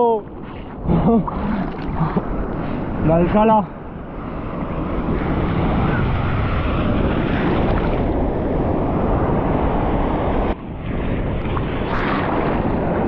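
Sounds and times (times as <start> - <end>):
rushing sea water: 0.0 - 13.0
wind buffeting microphone: 0.0 - 13.0.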